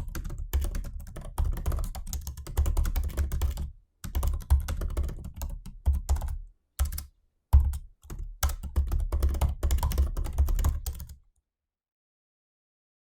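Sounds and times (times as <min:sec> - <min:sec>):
fast typing on laptop keyboard: 0:00.0 - 0:11.2.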